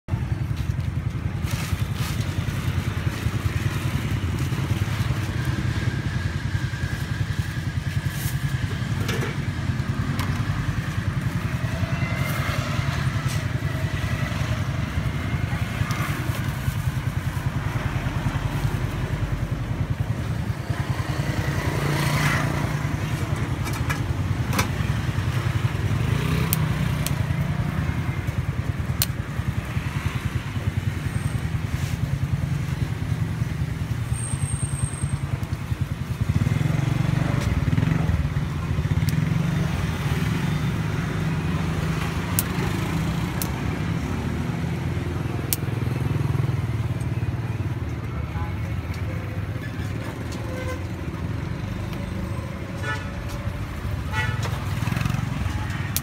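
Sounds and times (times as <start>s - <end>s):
motorbike engines running: 0.1s - 56.0s.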